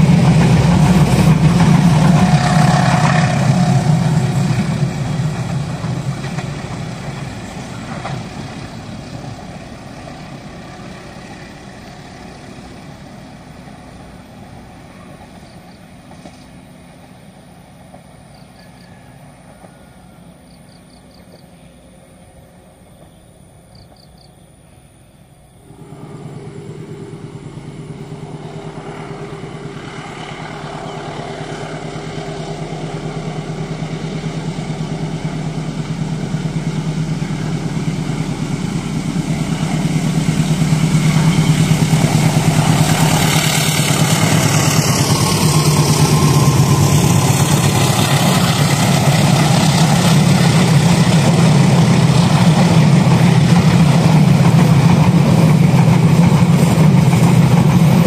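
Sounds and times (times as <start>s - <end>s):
diesel locomotive engine hum: 0.0s - 58.0s
wheel and rail noise: 0.0s - 58.0s.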